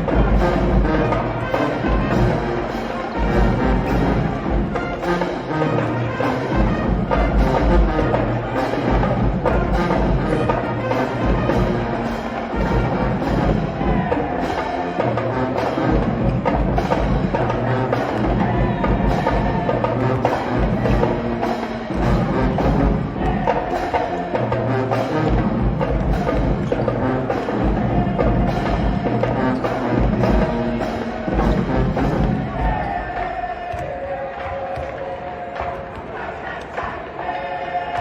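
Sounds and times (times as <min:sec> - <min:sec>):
music with percussion: 0:00.0 - 0:37.3.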